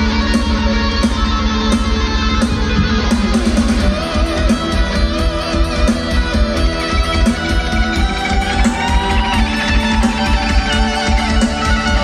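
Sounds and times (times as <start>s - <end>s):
lead guitar bending pitch: 0.0s - 12.0s
slow hard rock music: 0.0s - 12.0s
steady drum beat: 0.0s - 12.0s.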